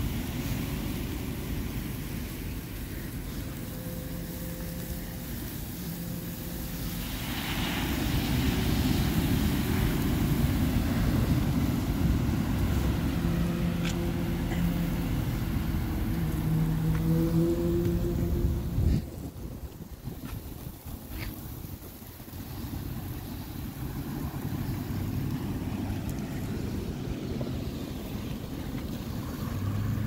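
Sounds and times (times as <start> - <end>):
distant engine droning: 0.0 - 21.3, 22.0 - 30.0
low outdoor rumble: 0.0 - 30.0.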